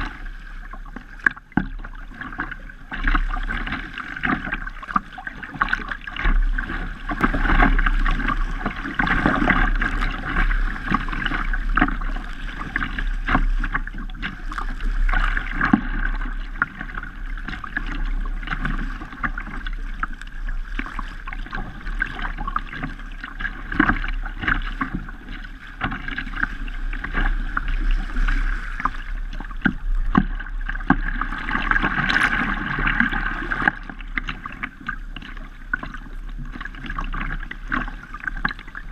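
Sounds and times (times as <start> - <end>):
water slapping against kayak: 0.0 - 38.9
wind rumble on microphone: 0.0 - 38.9.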